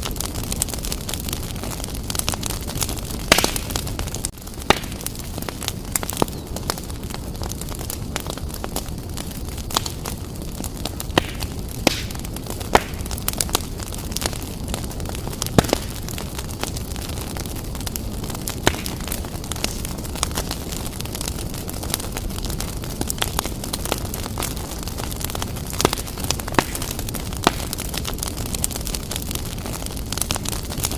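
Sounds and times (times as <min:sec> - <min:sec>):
wood fire crackling: 0:00.0 - 0:30.9.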